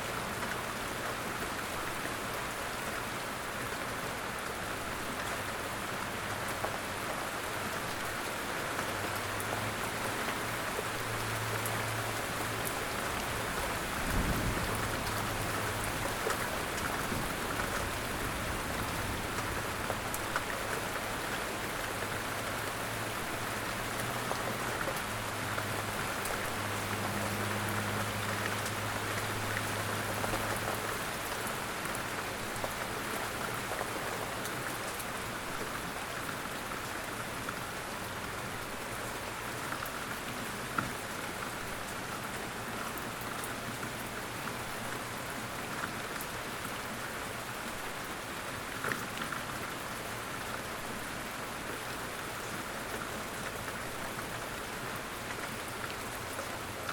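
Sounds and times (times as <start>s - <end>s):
light rain hiss: 0.0s - 56.9s.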